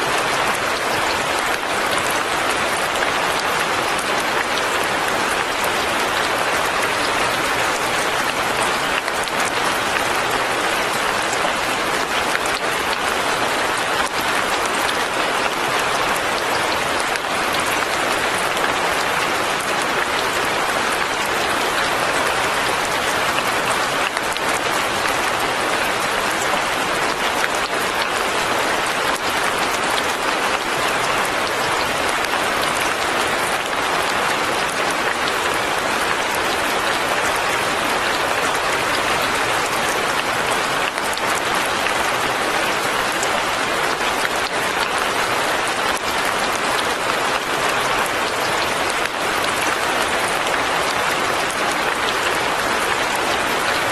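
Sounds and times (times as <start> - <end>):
light rain falling: 0.0 - 53.9.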